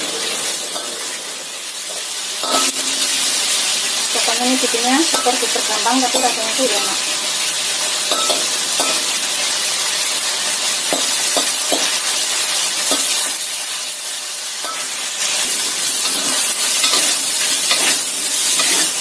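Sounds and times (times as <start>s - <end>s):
chicken sizzling in oil: 0.0s - 19.0s
metal spatula scraping wok: 0.1s - 19.0s.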